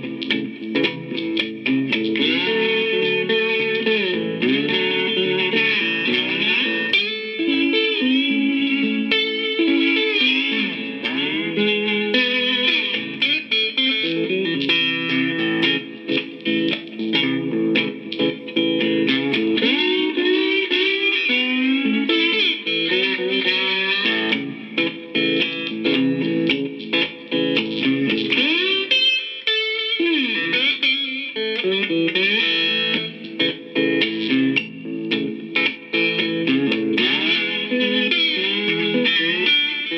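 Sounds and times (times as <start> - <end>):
electric guitar plucked notes: 0.0 - 39.9.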